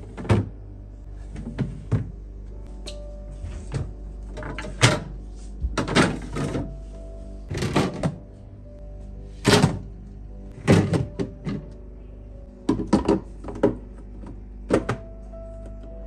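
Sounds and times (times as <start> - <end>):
refrigerator shelves clunking: 0.0 - 0.6, 1.2 - 2.2, 2.8 - 8.4, 9.3 - 11.8, 12.6 - 16.0
background music: 0.0 - 16.0.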